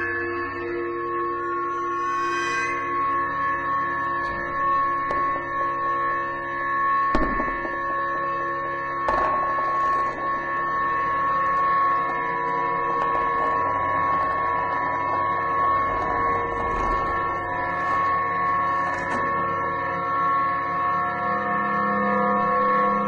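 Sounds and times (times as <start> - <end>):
ambient drone music: 0.0 - 23.0.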